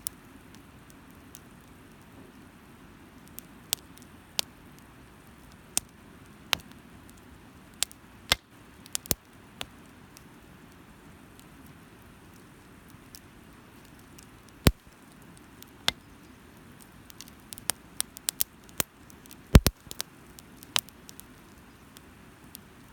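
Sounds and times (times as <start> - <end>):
fire low hiss: 0.0 - 22.9
firewood crackling and popping: 0.0 - 22.9.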